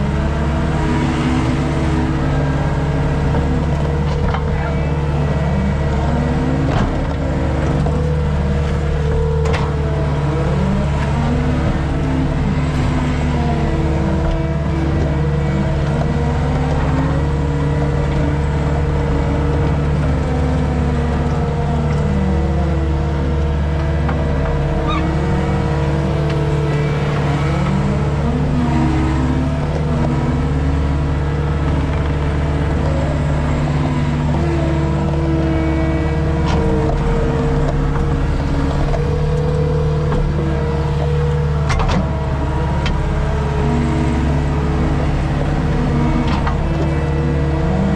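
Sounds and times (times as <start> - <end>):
skid steer engine under load: 0.0 - 47.9.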